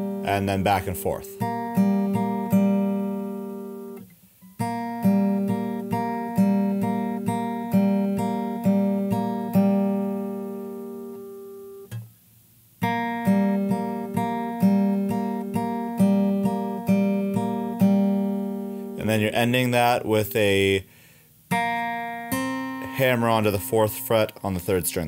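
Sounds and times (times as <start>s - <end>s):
acoustic guitar fingerpicked: 0.0s - 25.0s.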